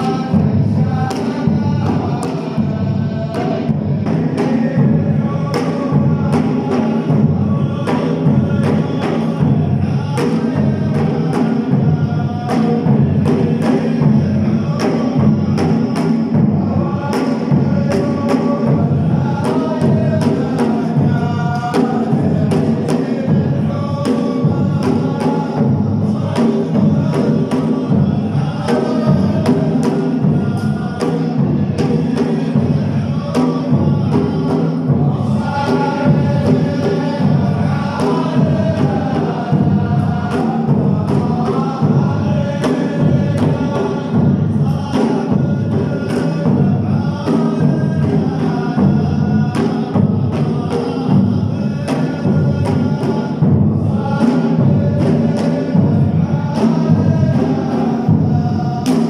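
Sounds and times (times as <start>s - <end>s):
hand drums beating: 0.0s - 59.0s
male chorus chanting: 0.0s - 59.0s.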